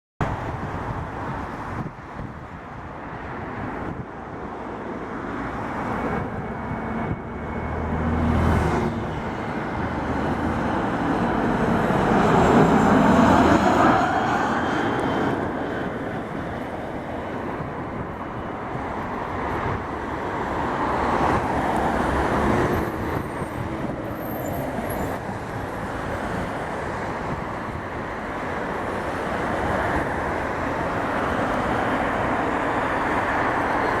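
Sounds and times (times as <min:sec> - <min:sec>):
jet airliner passing overhead: 0:00.3 - 0:34.0.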